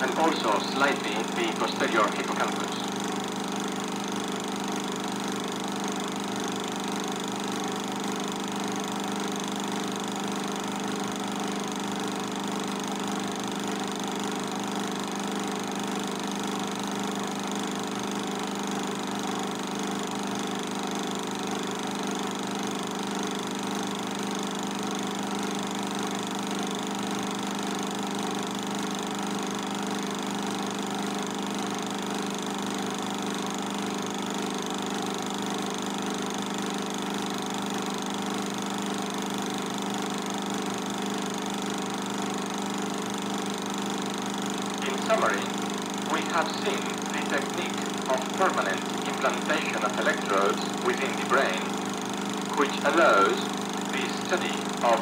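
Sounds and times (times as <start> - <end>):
film projector humming and whirring: 0.0 - 55.0.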